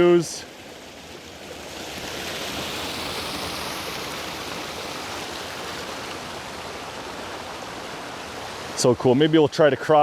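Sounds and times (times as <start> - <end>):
waterfall cascading over rocks: 0.0 - 10.0.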